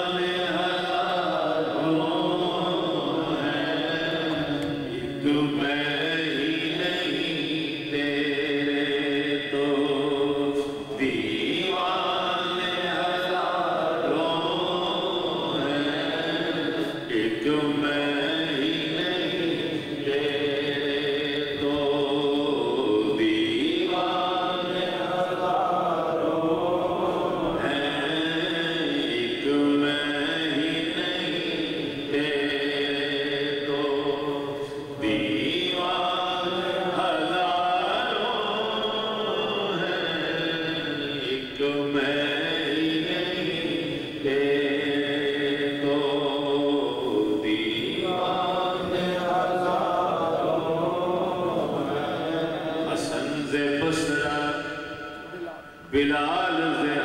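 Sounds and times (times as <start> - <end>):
man chanting: 0.0 - 57.0.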